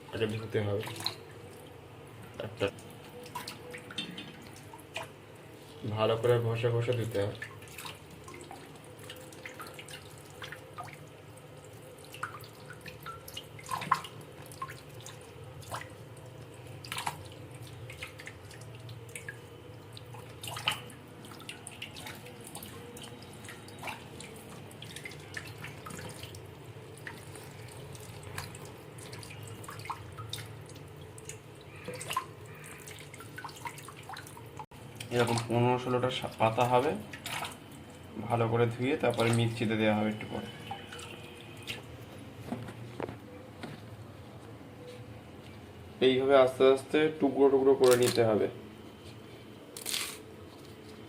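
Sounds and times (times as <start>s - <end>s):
water drips and splashes: 0.0s - 43.3s, 47.6s - 48.5s.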